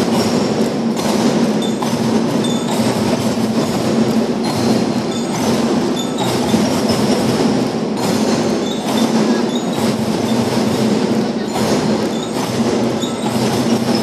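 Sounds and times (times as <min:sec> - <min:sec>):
snare drums: 0:00.0 - 0:14.0
tenor drums: 0:00.0 - 0:14.0.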